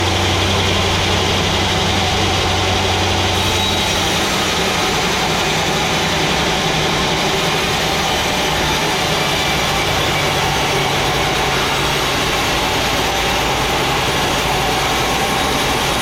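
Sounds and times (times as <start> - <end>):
sawmill engine drone: 0.0 - 16.0.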